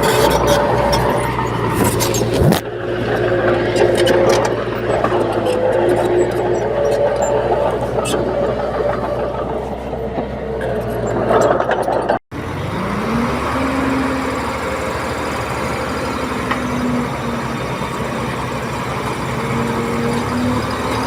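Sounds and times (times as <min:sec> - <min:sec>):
heavy diesel engine revving: 0:00.0 - 0:21.0.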